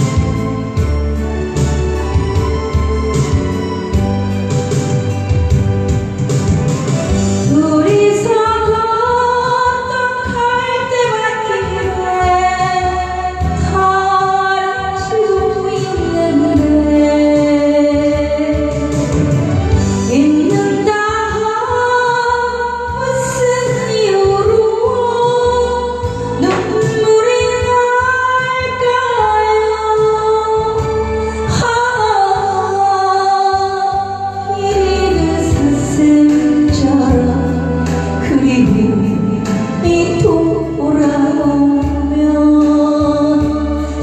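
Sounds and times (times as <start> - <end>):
backing music: 0.0 - 44.0
woman singing: 7.4 - 19.3, 20.0 - 44.0.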